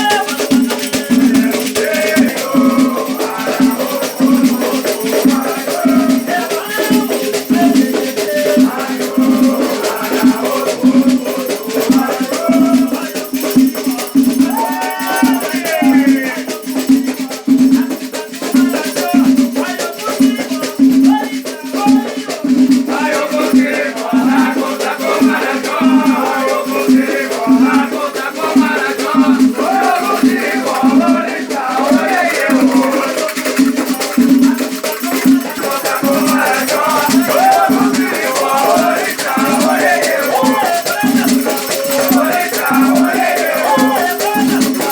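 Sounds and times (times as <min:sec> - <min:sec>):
shaker rattling: 0:00.0 - 0:20.7, 0:23.7 - 0:44.9
drum beat: 0:00.0 - 0:44.9
voices singing: 0:00.0 - 0:44.9.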